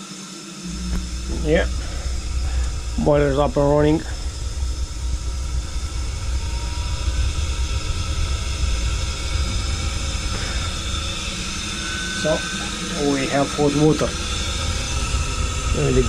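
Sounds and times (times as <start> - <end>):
boiler running: 0.0 - 16.0.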